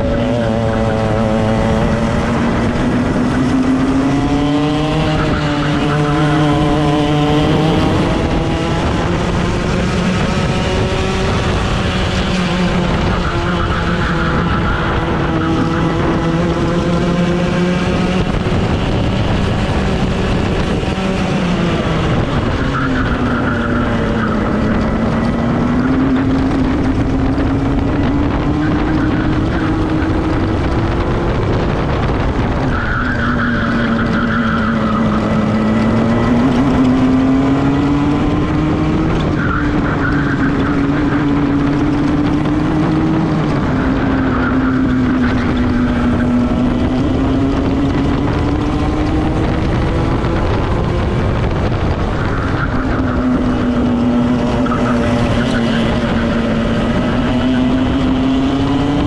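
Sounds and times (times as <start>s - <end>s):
kart engine at full throttle: 0.0s - 59.0s.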